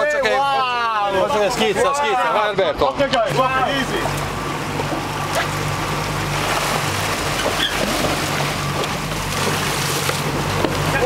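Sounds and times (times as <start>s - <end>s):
boat engine humming: 0.0s - 11.0s
sea water splashing along hull: 0.4s - 11.0s.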